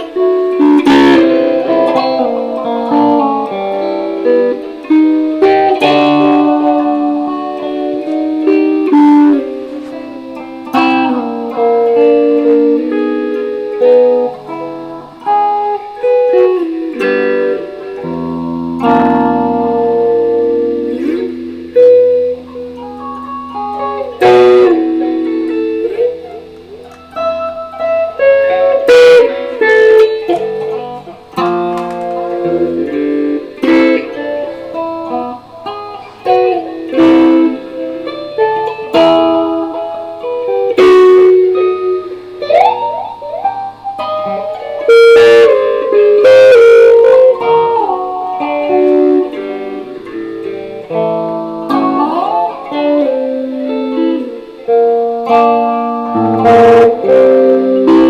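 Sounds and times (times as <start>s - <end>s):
electric guitar solo: 0.0s - 58.0s.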